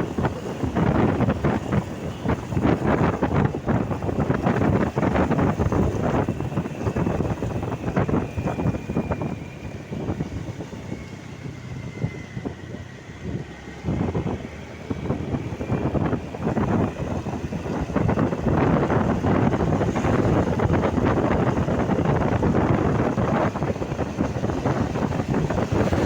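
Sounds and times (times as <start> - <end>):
road traffic: 0.0 - 26.0
wind buffeting microphone: 0.0 - 26.0.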